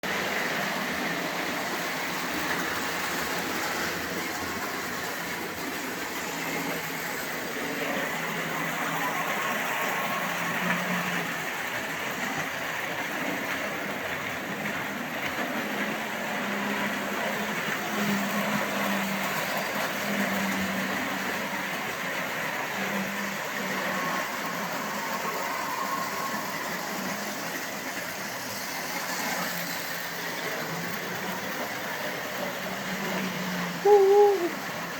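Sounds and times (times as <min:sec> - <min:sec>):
toy train motors whirring: 0:00.1 - 0:34.9.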